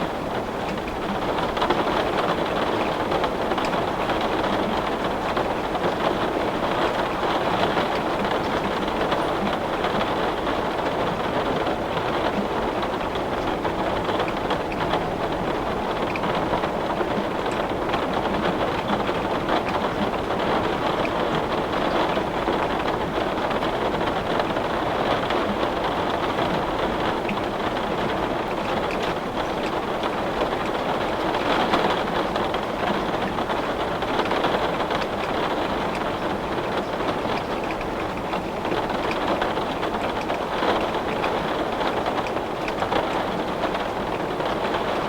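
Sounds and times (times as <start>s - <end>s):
heavy rain on window glass: 0.0s - 45.0s
raindrops tapping: 0.0s - 45.0s.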